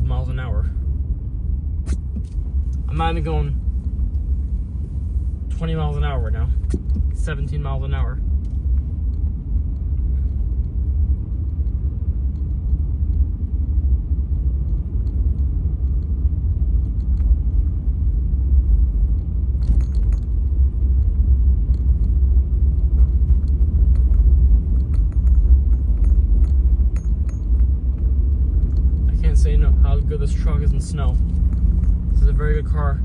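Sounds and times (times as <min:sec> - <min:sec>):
in-cabin vehicle rumble: 0:00.0 - 0:33.0.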